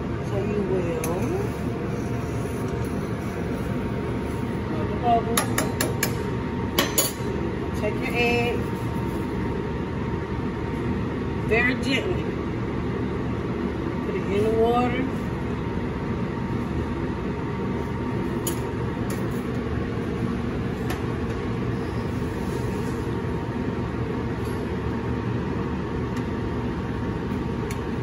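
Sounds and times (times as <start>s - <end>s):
gas burner: 0.0s - 28.0s
ventilation hood rushing: 0.0s - 28.0s.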